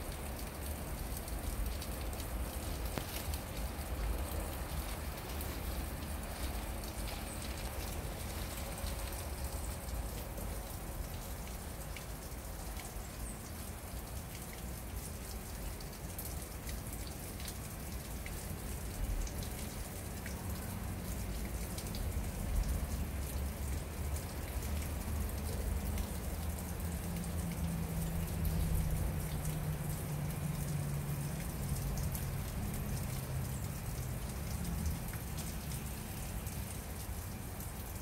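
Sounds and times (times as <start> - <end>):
water trickling and splashing into pool: 0.0 - 38.0.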